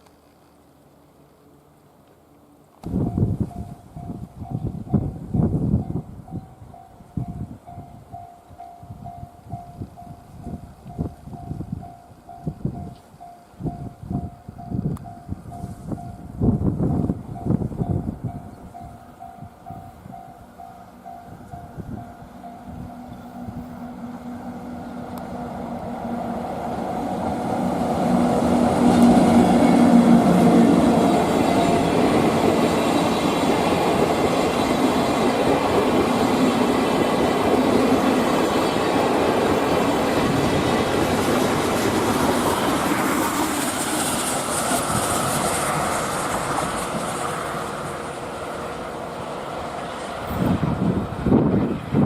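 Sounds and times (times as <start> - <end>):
electric locomotive hum: 0.0 - 52.0
train wheels rolling rumble: 0.0 - 52.0.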